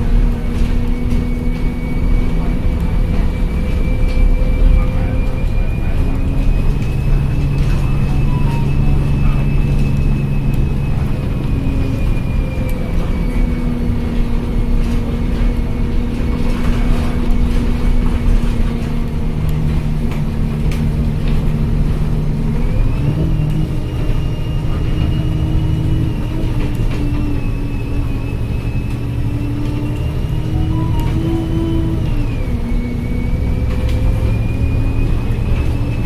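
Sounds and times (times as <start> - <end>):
bus engine: 0.0 - 36.0.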